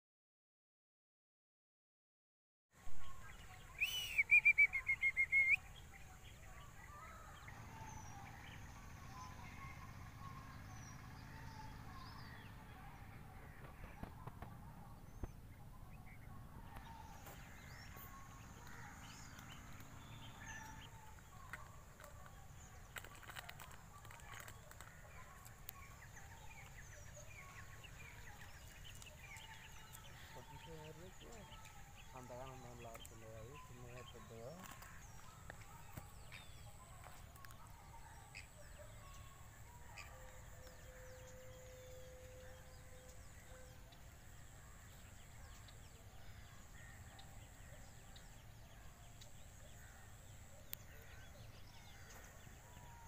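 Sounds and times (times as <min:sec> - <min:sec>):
birds chirping and calling: 0:03.0 - 0:53.0.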